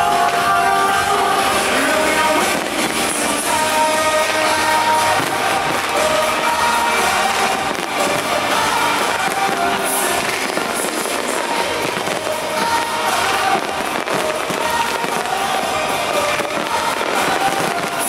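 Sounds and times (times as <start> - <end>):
fireworks popping and crackling: 0.0 - 18.0
melodic music: 0.0 - 18.0.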